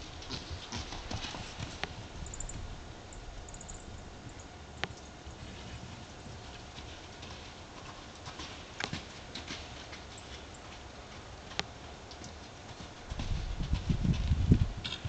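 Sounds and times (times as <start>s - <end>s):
horse hooves galloping: 0.0s - 15.0s.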